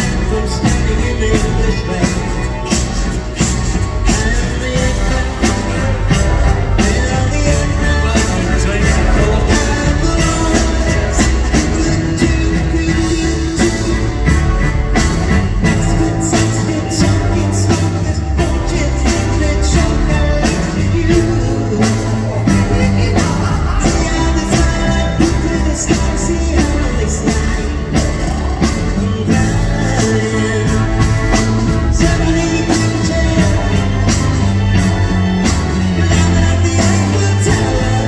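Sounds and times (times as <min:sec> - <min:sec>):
bass: 0:00.0 - 0:38.0
drum beat: 0:00.0 - 0:38.0
guitar: 0:00.0 - 0:38.0
person singing: 0:00.0 - 0:38.0.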